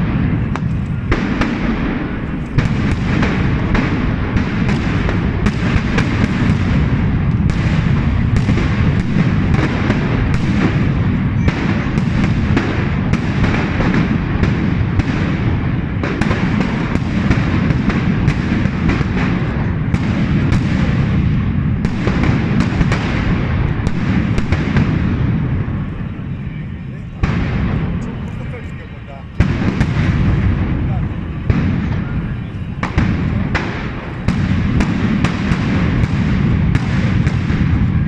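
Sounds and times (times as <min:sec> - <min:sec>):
firecrackers cracking: 0:00.0 - 0:38.0
rumble of fireworks bangs: 0:00.0 - 0:38.0.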